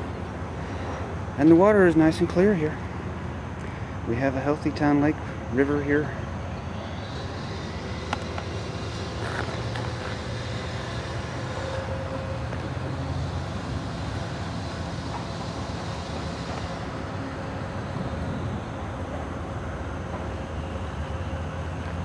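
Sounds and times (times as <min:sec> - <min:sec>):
distant traffic rumble: 0:00.0 - 0:22.0.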